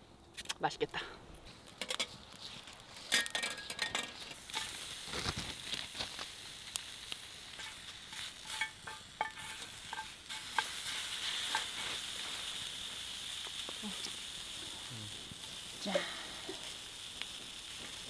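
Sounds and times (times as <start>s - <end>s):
campfire crackling and snapping: 0.0s - 18.0s
shrimp sizzling in a frying pan: 1.8s - 18.0s.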